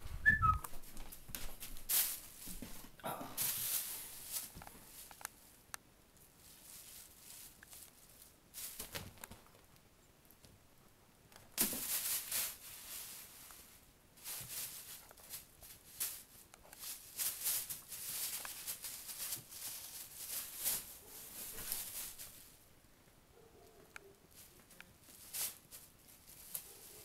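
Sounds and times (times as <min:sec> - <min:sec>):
plastic bag rustling and crinkling: 0:00.0 - 0:05.6, 0:06.2 - 0:09.8, 0:11.4 - 0:22.6, 0:24.3 - 0:27.0.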